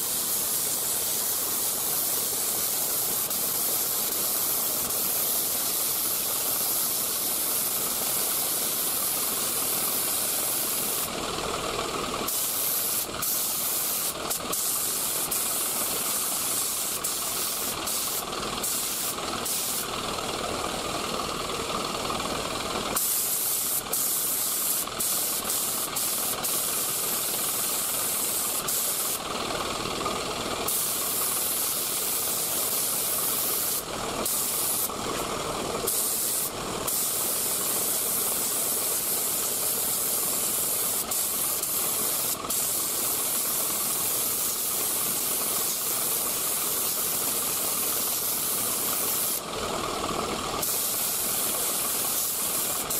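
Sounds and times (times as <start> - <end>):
spray gun hissing: 0.0 - 52.9.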